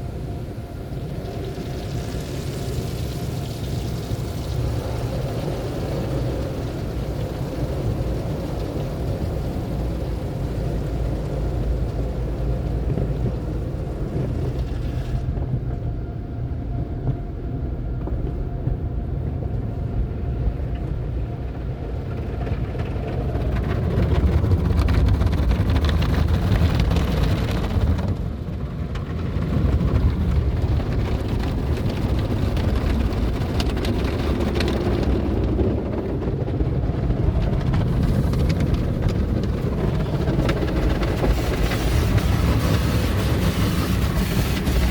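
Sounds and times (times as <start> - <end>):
car wash equipment rumbling: 0.0 - 44.9.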